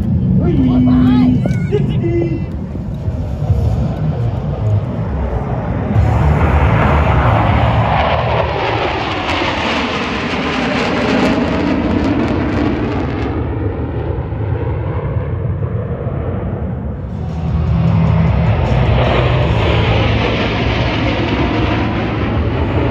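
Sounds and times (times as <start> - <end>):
fighter jets roaring overhead: 0.0 - 22.9.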